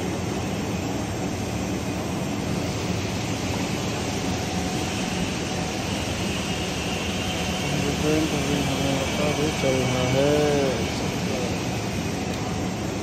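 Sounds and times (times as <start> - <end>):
workshop machinery roar: 0.0 - 13.0.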